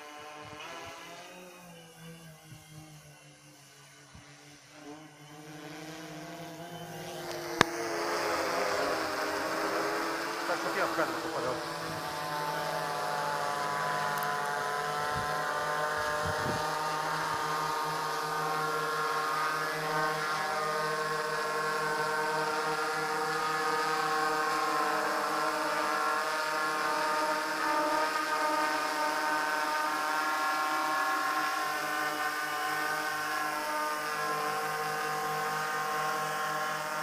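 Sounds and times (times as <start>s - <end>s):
multi-rotor drone buzzing: 0.0s - 37.0s.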